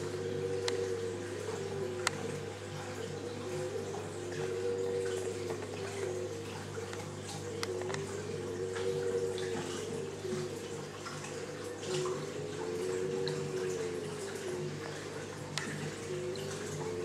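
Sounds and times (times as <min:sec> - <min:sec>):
aquarium water trickling: 0:00.0 - 0:17.0
low pump hum: 0:00.0 - 0:17.0
water drips: 0:00.0 - 0:17.0.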